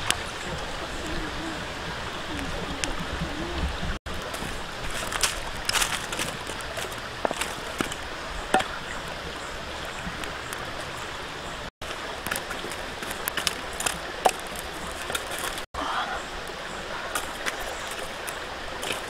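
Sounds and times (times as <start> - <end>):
stream flowing over rocks: 0.0 - 19.0.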